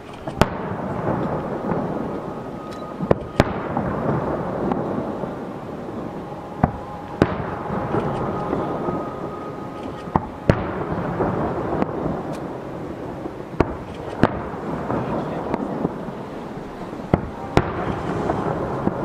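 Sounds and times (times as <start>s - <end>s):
firework shells bursting: 0.0s - 8.9s, 9.6s - 19.0s
rumble of blasts and echoes: 0.0s - 19.0s.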